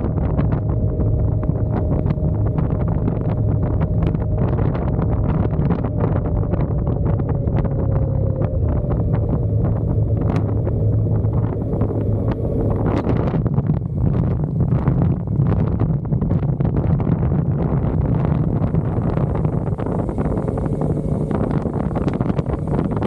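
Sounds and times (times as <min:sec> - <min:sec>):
constant whine: 0:00.0 - 0:23.0
motorcycle engine drone: 0:00.0 - 0:23.0
wind buffeting microphone: 0:00.0 - 0:23.0.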